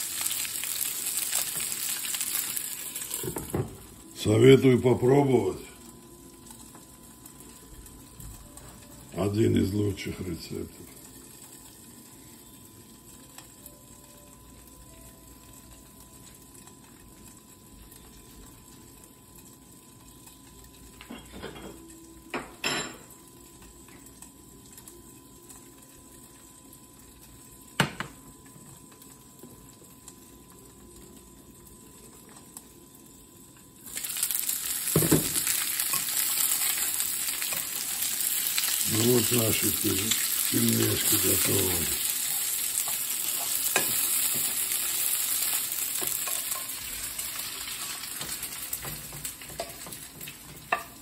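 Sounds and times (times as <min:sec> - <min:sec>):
dumplings sizzling in a frying pan: 0:00.0 - 0:51.0.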